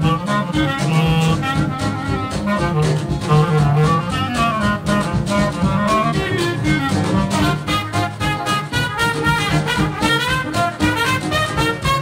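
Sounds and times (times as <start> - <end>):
banjo: 0.0 - 12.0
clarinet: 0.0 - 12.0
drums: 0.0 - 12.0
trombone: 0.0 - 12.0
trumpet: 0.0 - 12.0.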